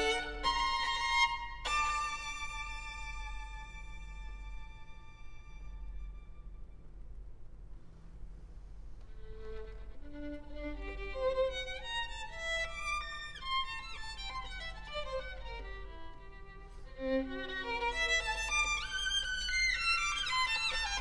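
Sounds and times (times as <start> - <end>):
solo violin playing: 0.0 - 6.1, 9.2 - 21.0.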